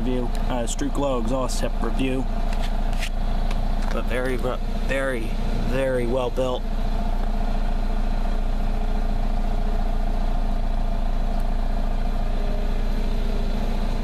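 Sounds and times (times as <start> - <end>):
car engine idling at exhaust: 0.0 - 14.0.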